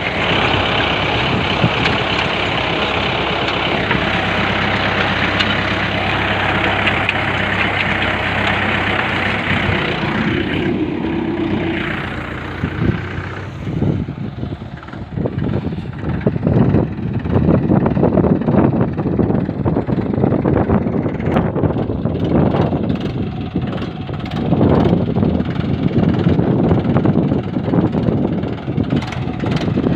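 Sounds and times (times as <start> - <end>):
tractor diesel engine running: 0.0 - 29.9
wind buffeting microphone: 0.0 - 29.9.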